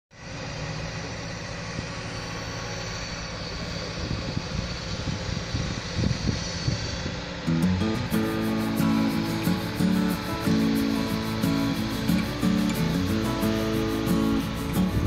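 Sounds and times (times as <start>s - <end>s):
excavator diesel engine running: 0.1s - 15.0s.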